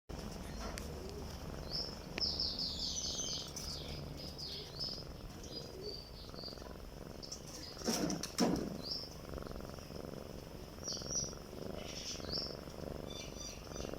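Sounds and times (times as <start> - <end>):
cat purring and breathing: 0.1 - 13.9
small birds chirping: 0.1 - 13.9.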